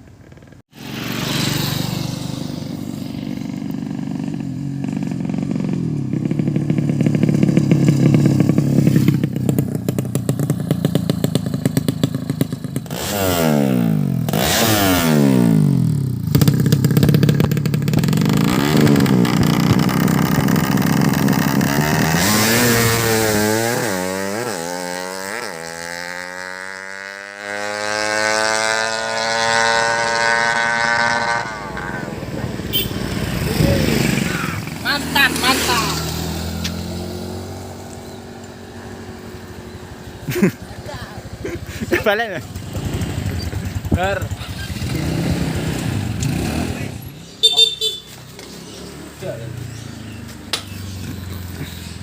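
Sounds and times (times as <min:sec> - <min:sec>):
motorcycle engine revving: 0:00.2 - 0:52.0.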